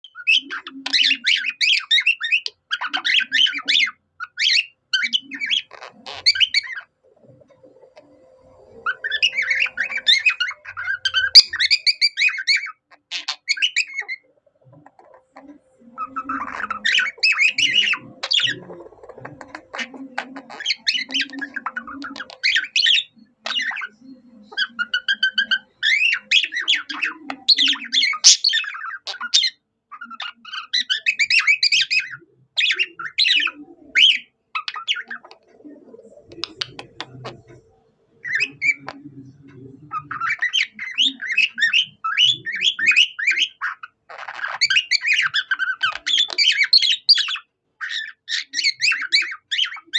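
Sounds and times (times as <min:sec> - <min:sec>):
budgerigar warbling and squawking: 0:00.0 - 0:49.9.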